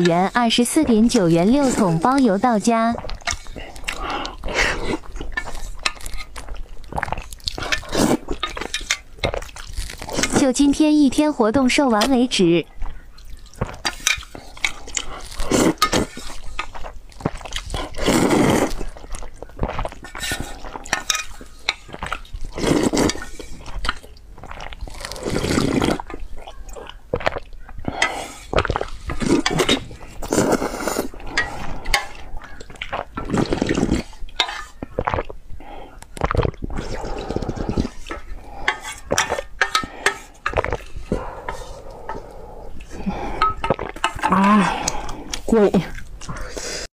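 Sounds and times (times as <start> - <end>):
slurping and gulping broth: 0.0 - 46.9.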